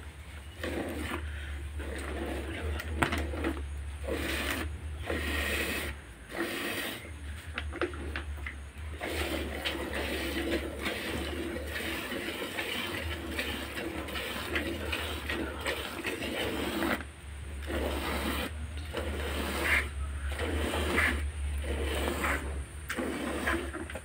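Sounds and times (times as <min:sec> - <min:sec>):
milk squirting into bucket: 0:00.4 - 0:24.0.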